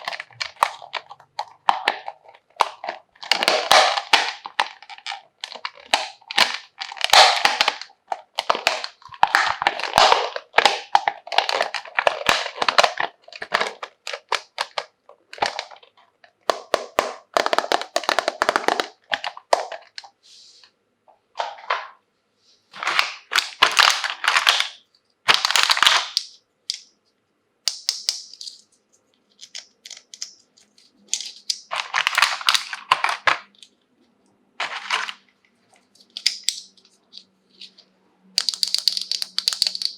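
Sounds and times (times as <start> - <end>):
plastic packaging crinkling: 0.0 - 20.1, 22.8 - 26.4, 27.8 - 33.8, 34.6 - 37.8, 38.4 - 39.9.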